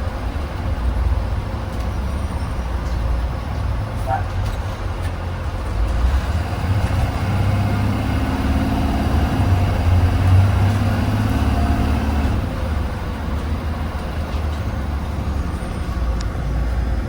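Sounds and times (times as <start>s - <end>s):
bus engine humming: 0.0s - 17.0s.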